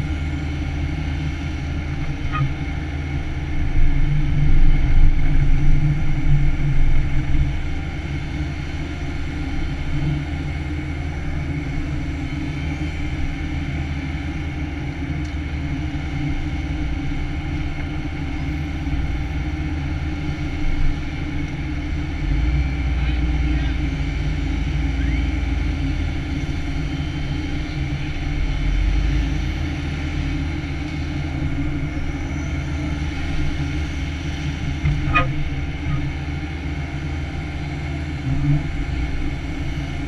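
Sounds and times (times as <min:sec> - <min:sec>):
excavator diesel engine and hydraulics: 0:00.0 - 0:40.0.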